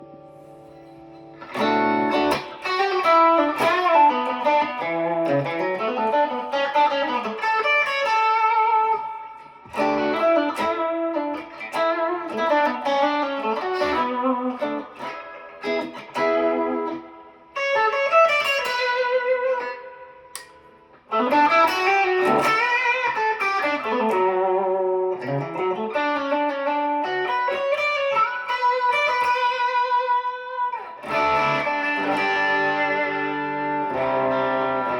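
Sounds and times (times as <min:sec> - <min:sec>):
electric guitar lead: 0:00.0 - 0:34.9.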